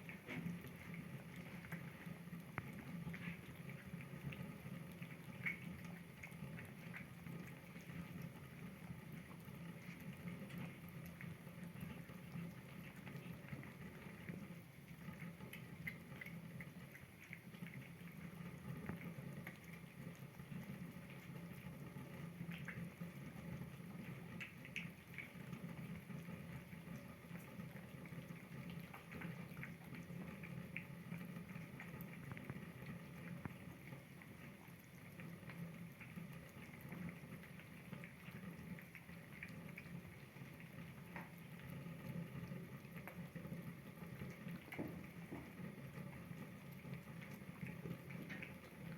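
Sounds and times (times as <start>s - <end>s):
kittens lapping and chewing: 0.0s - 48.9s
low background hum: 0.0s - 48.9s.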